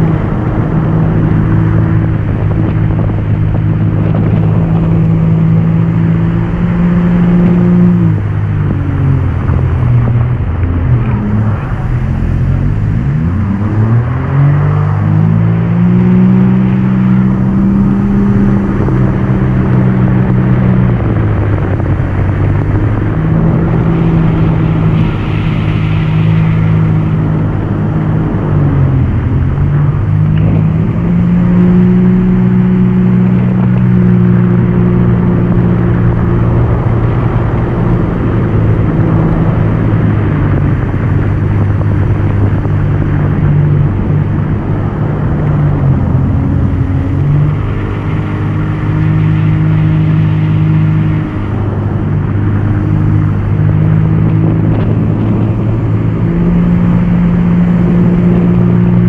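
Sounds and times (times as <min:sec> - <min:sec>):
water spray rushing: 0:00.0 - 0:59.0
watercraft engine running hard: 0:00.0 - 0:59.0.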